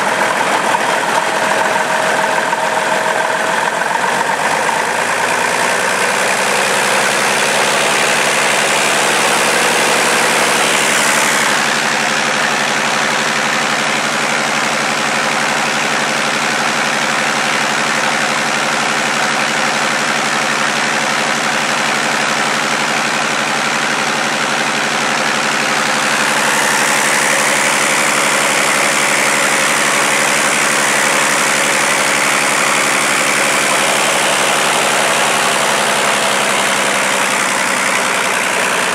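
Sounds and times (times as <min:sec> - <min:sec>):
diesel engine motored on test stand: 0:00.0 - 0:38.9.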